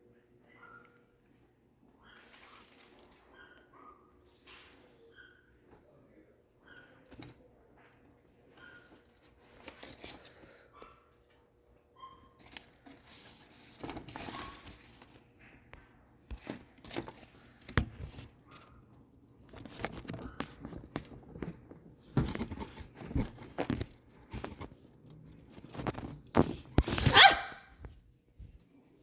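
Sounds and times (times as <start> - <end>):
rustling and crinkling: 2.1 - 5.0, 6.7 - 29.0.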